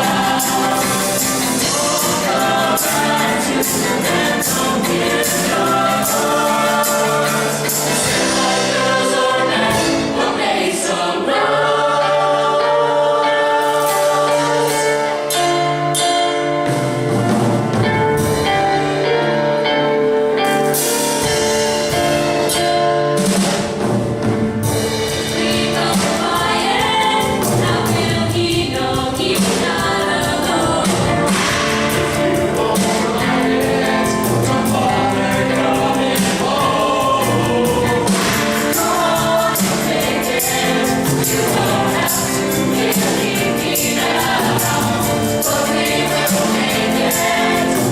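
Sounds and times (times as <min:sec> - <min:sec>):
vocal group singing in harmony: 0:00.0 - 0:16.1, 0:24.7 - 0:47.9
instrumental backing with bass: 0:00.0 - 0:47.9.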